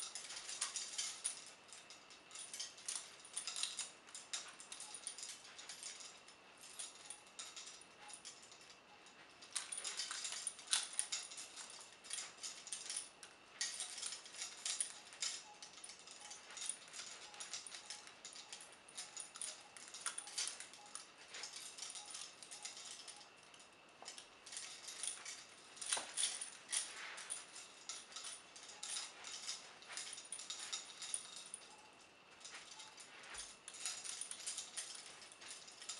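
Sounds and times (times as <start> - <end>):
chains and handcuffs jangling: 0.0 - 35.9.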